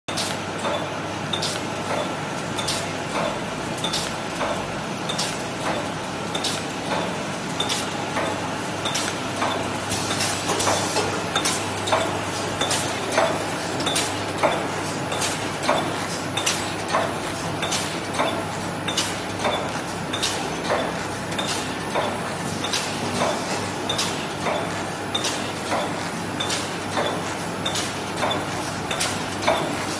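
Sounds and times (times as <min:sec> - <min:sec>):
press striking with sharp click: 0:00.2 - 0:29.8.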